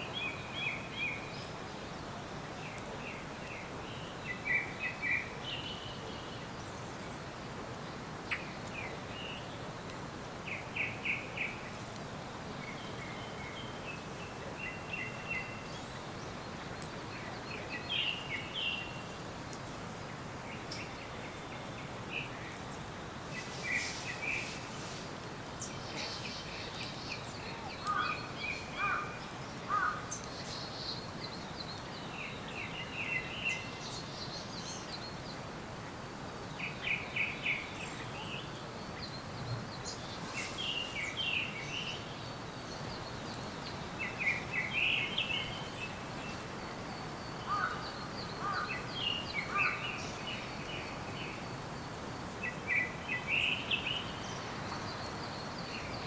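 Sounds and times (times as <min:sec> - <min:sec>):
songbirds singing: 0:00.0 - 0:56.0
steady background hiss: 0:00.0 - 0:56.0.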